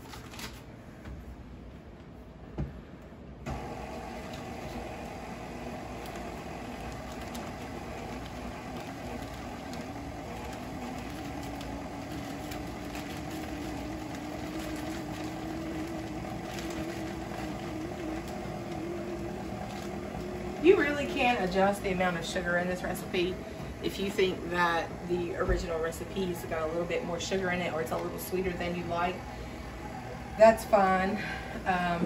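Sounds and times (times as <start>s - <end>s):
stand mixer running: 3.5s - 32.0s.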